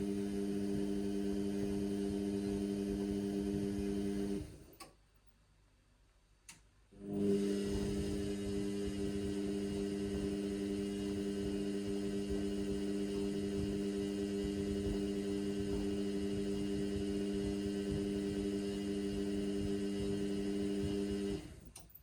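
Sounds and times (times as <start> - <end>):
drain pump humming: 0.0 - 4.6, 7.0 - 21.6.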